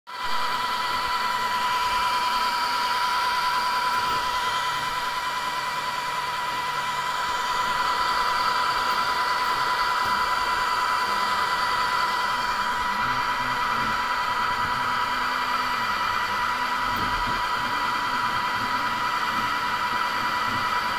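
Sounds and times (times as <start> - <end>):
cooling fans whirring: 0.1 - 20.9
shifting motor tones: 0.2 - 20.9.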